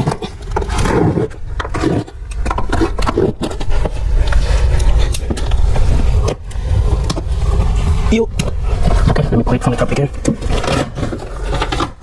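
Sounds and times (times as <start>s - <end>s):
low rumble: 1.2s - 11.7s.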